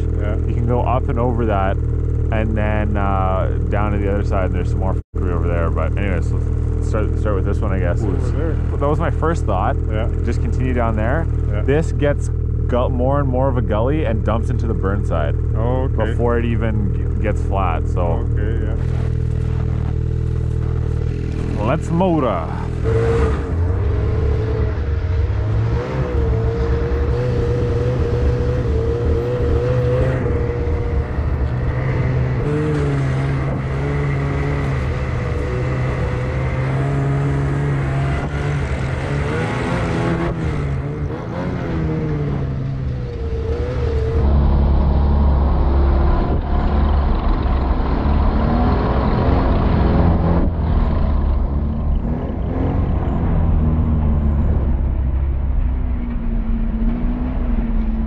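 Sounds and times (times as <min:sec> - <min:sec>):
snowmobile engine running: 0:00.0 - 0:55.0
heavy low rumble: 0:00.0 - 0:58.0.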